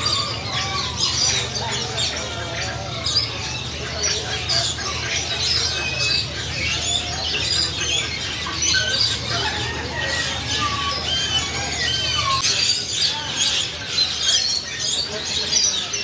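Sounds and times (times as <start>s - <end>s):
parrots chirping and squawking: 0.0s - 16.0s
whistled bird calls: 0.0s - 16.0s.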